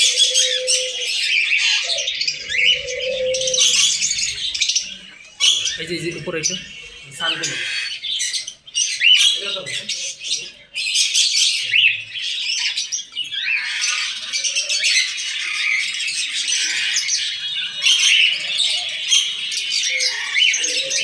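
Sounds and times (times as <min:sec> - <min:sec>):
caged birds chirping and squawking: 0:00.0 - 0:21.0.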